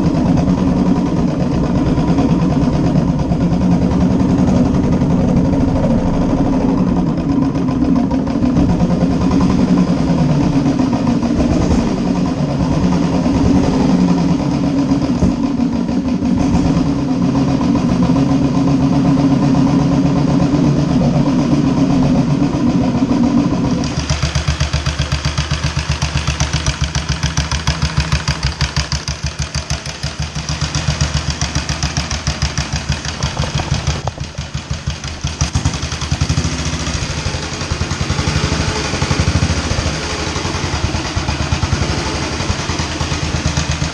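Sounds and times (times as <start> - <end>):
even pulsing beat: 0.0 - 43.9
motorcycle engine running: 0.0 - 43.9.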